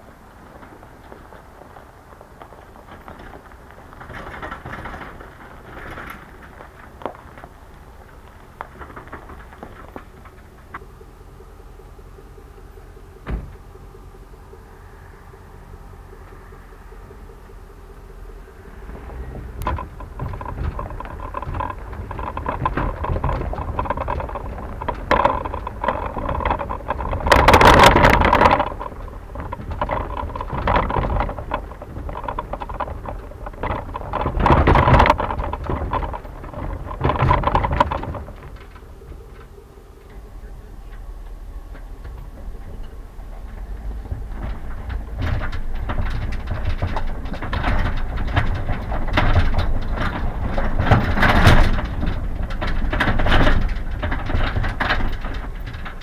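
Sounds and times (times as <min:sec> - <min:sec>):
steady low hum: 0:00.0 - 0:56.0
trailer rattling: 0:00.0 - 0:56.0
tyres crunching over gravel: 0:00.0 - 0:56.0.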